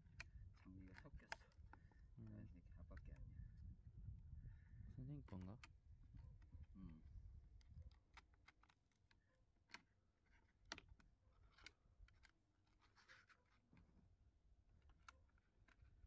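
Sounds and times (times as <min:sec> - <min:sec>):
faint clicks and scratches: 0:00.0 - 0:03.8, 0:04.5 - 0:16.0.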